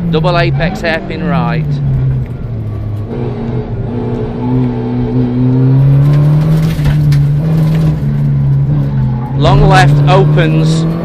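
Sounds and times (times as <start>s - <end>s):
car engine under throttle: 0.0s - 11.0s.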